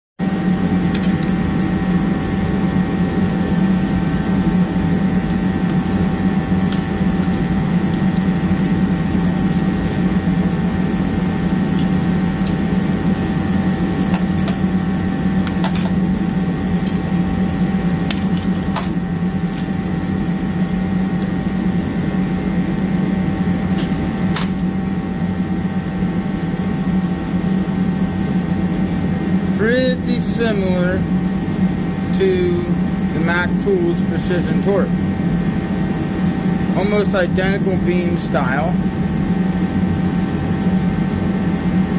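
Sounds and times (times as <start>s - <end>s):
garage heater humming: 0.2s - 41.9s.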